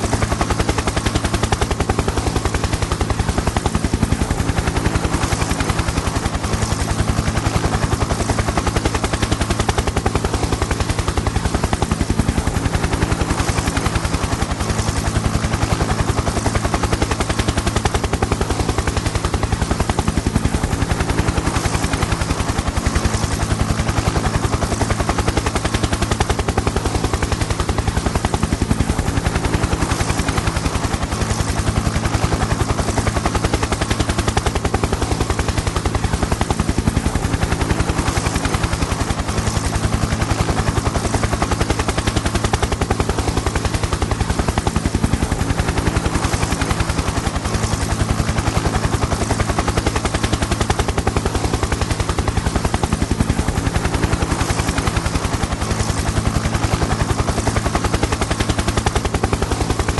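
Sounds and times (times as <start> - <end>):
engine and turbine whine: 0.0 - 59.9
helicopter rotor beats: 0.0 - 59.9.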